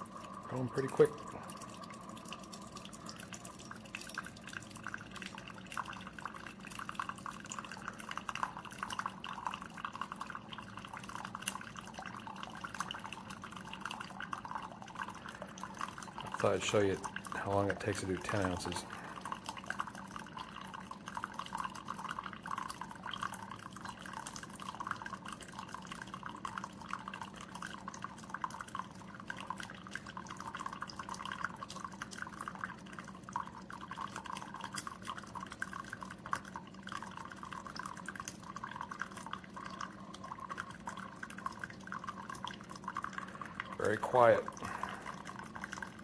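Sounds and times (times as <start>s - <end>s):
liquid streaming into mug: 0.0s - 46.0s
low steady hum: 0.0s - 46.0s.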